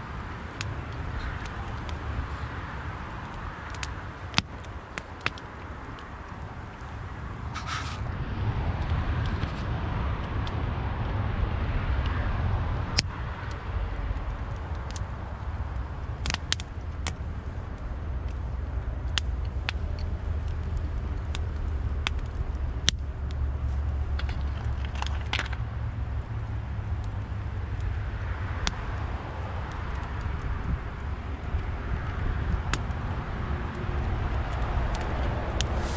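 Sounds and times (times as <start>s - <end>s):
low fire rumble: 0.0s - 35.9s
wood fire popping and crackling: 0.0s - 35.9s.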